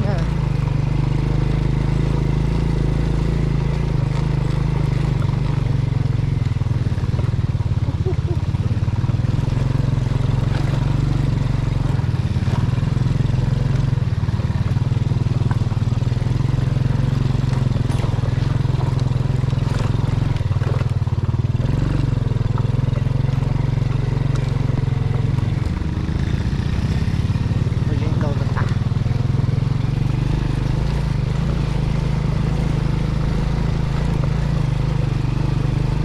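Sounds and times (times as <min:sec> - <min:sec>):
motorcycle engine droning: 0:00.0 - 0:36.0.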